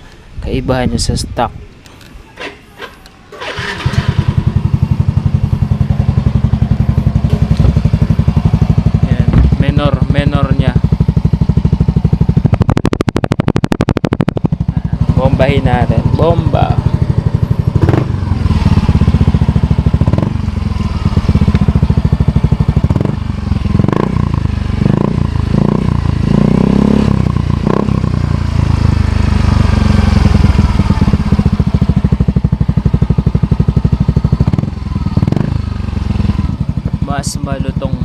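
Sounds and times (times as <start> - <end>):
scooter engine idling and revving: 2.4 - 38.0.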